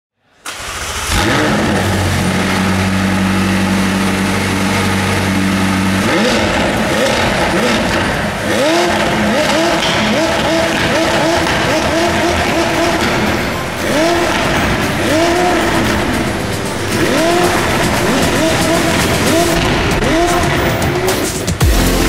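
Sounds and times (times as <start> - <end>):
sports car engine revving: 0.6 - 22.0.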